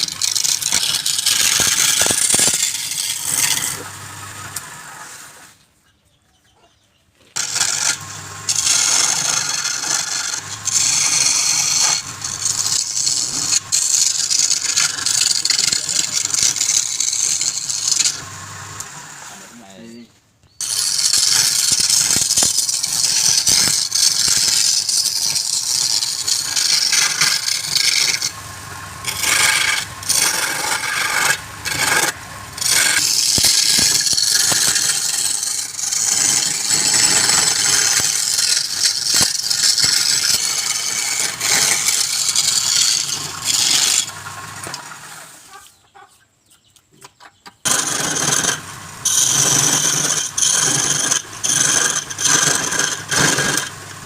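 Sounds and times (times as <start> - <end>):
wood lathe tool scraping: 0.0 - 5.6, 7.3 - 20.0, 20.6 - 45.8, 47.6 - 54.0.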